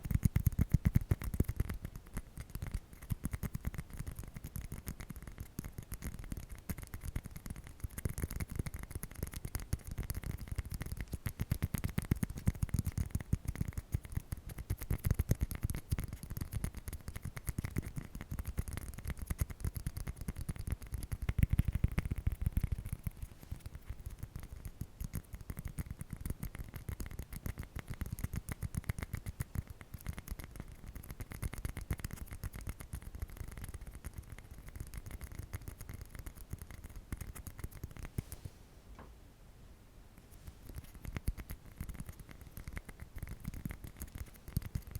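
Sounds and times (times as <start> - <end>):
rapid tapping close to microphone: 0.0 - 38.3, 40.5 - 44.9.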